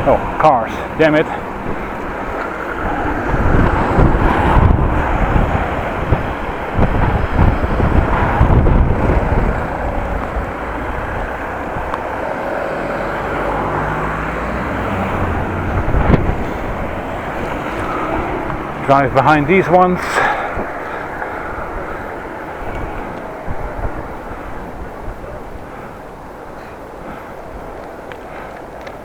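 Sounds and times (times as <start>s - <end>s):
car traffic: 0.0s - 29.0s
wind buffeting microphone: 0.0s - 29.0s.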